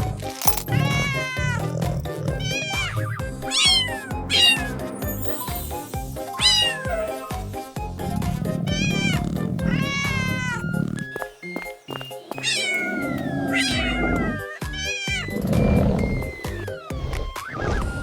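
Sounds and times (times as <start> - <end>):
background music: 0.0 - 18.0
cat meowing: 0.4 - 11.2, 12.0 - 17.4.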